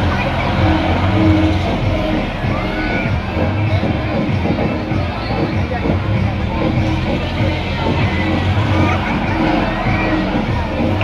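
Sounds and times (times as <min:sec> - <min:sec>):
crowd voices: 0:00.0 - 0:11.0
fairground music: 0:00.0 - 0:11.0.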